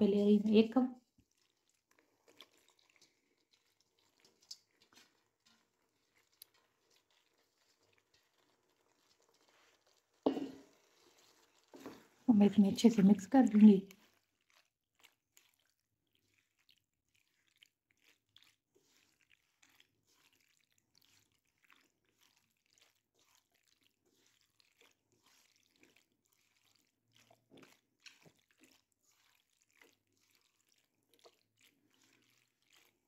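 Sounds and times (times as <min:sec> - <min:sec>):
spatula stirring macaroni: 0:00.0 - 0:33.0.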